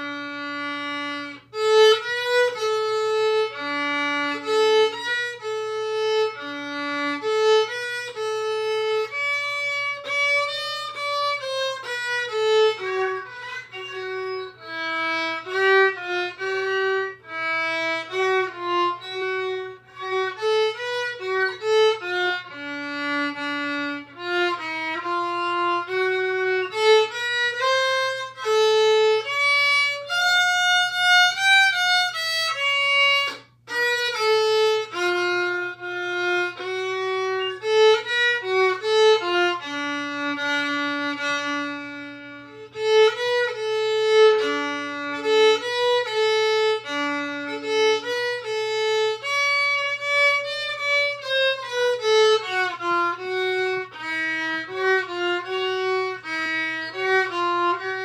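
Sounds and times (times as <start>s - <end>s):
solo violin waltz: 0.0s - 58.0s.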